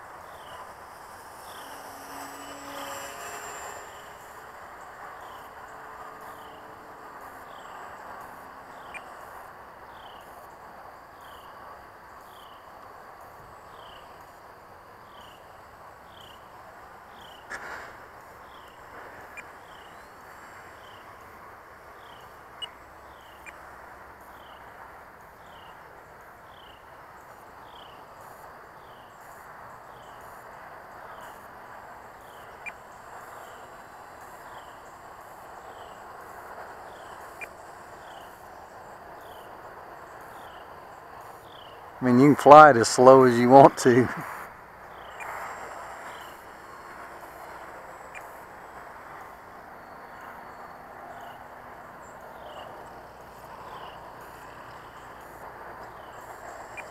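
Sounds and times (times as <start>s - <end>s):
insect chirping: 0.0s - 56.9s
steady hiss: 0.0s - 56.9s.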